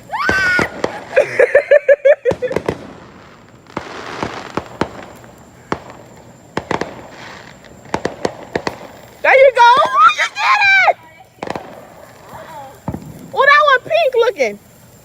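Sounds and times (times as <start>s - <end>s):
fireworks popping and crackling: 0.0s - 15.0s
fireworks warbling pulses: 0.0s - 15.0s.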